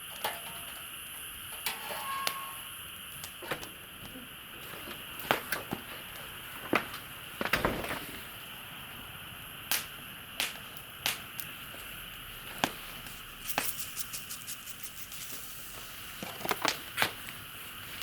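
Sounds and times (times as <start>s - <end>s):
campfire crackling: 2.8s - 18.0s.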